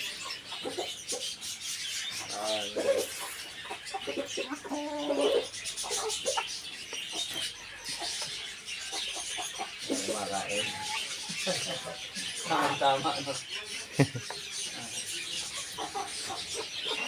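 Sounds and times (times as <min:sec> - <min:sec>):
chickens clucking: 0:00.0 - 0:17.0
small birds chattering: 0:00.0 - 0:17.0.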